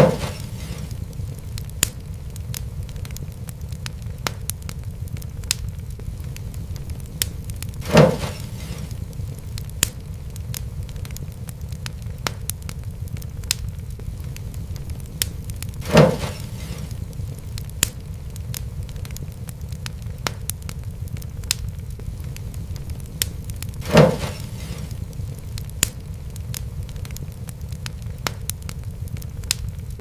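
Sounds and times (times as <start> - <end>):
loud fire pops: 0.0 - 30.0
wood fire crackling: 0.0 - 30.0.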